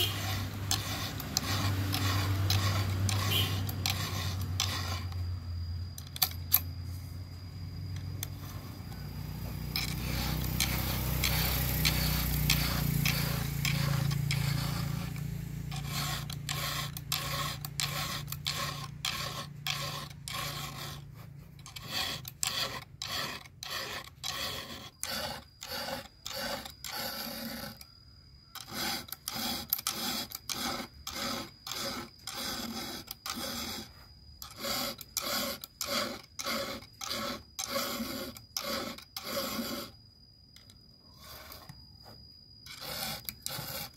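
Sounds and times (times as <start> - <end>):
file rasping on saw chain: 0.0 - 5.4, 7.8 - 40.1, 41.1 - 41.8, 42.6 - 43.9.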